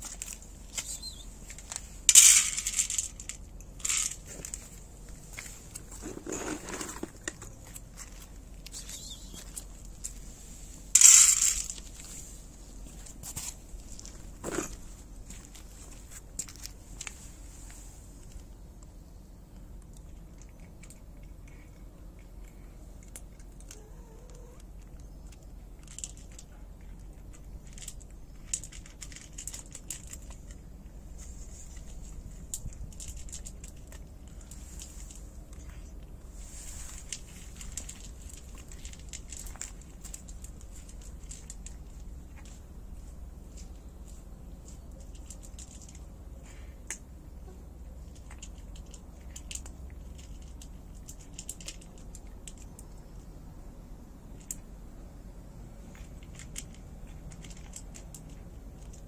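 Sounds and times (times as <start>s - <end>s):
steady low rumble: 7.0s - 59.0s.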